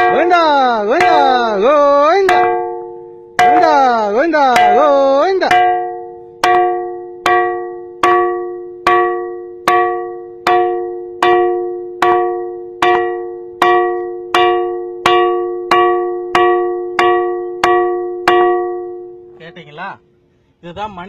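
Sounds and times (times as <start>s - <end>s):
ringing rock struck: 0.0s - 19.4s.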